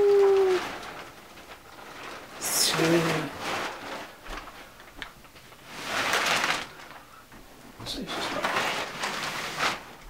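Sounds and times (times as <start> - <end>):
foam mattress and plastic rustling: 0.0 - 10.0.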